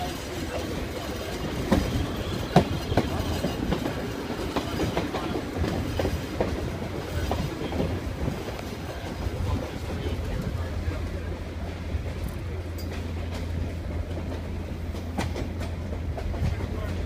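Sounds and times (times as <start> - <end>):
train coach rumbling: 0.0 - 17.0
wheels clanking over rail joints: 0.0 - 17.0.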